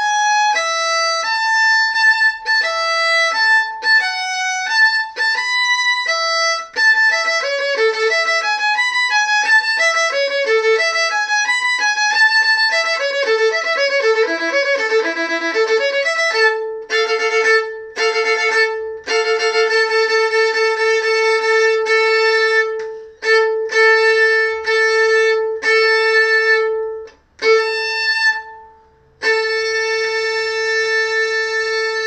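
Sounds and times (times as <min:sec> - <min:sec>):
solo violin bowing: 0:00.0 - 0:32.0.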